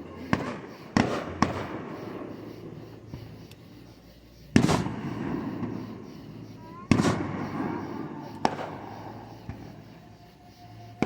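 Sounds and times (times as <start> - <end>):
fireworks banging: 0.0 - 3.7, 4.4 - 10.0.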